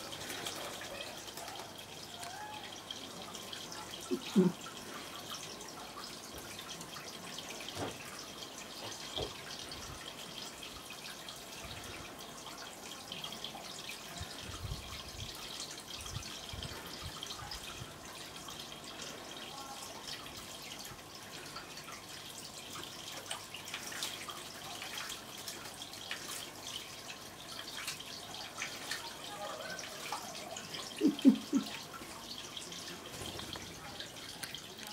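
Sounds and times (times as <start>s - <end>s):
fountain water trickling into basin: 0.0s - 34.9s.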